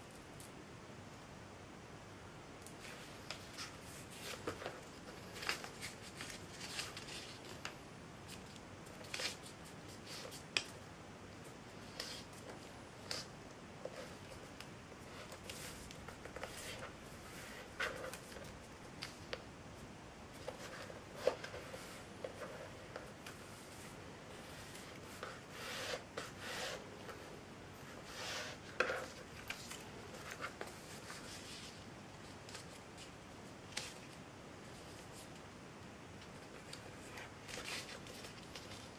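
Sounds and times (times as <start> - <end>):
paper rustling: 2.8 - 10.8, 11.7 - 19.4, 20.3 - 35.4, 36.2 - 38.9.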